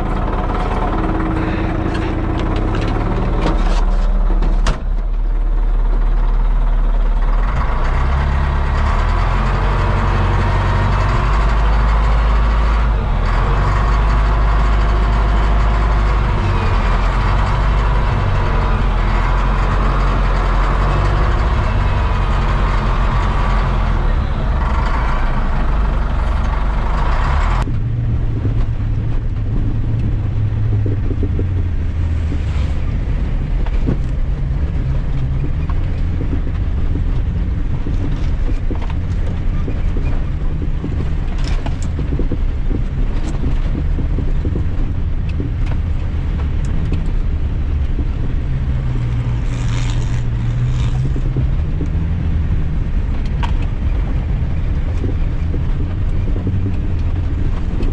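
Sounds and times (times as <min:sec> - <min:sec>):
engine rumbling: 0:00.0 - 0:57.9.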